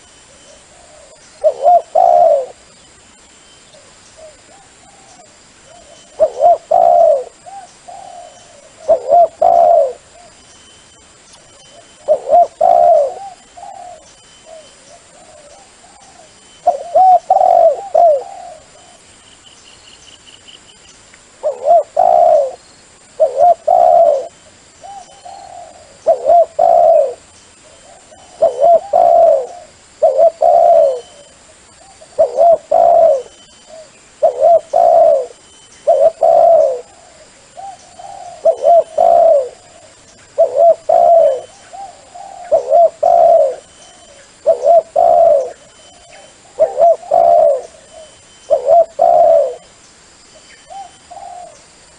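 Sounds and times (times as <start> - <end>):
dove cooing: 0.0 - 2.6, 3.8 - 10.4, 11.6 - 19.1, 21.4 - 49.8, 50.6 - 51.8.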